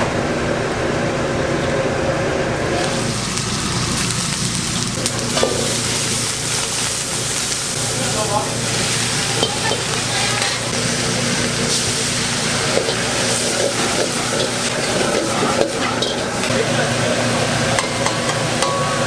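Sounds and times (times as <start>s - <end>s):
food sizzling in a wok: 2.8s - 19.0s.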